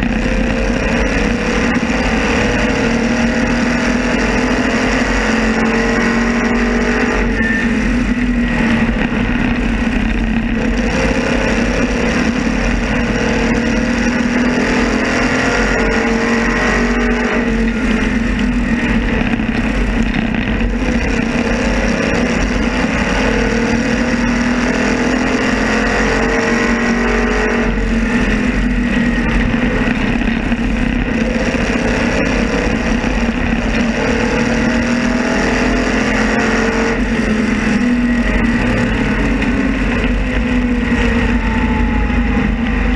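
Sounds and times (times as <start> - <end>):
racing car engine: 0.0 - 42.9.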